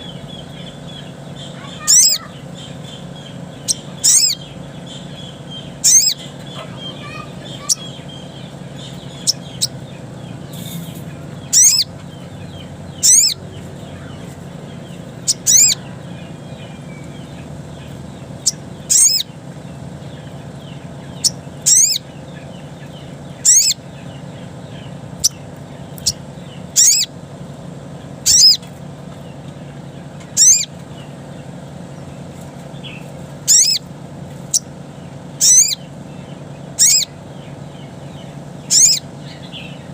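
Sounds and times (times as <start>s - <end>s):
bird calling with sliding notes: 0.0s - 19.4s, 20.0s - 27.2s, 28.0s - 39.9s
low hum: 0.0s - 39.9s.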